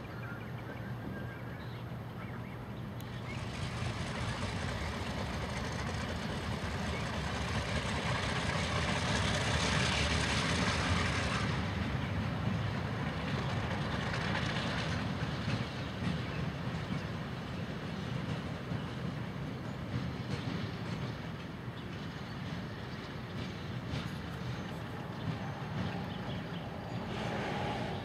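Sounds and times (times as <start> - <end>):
diesel locomotive engine rumble: 0.0 - 28.0
locomotive hiss: 0.1 - 28.0.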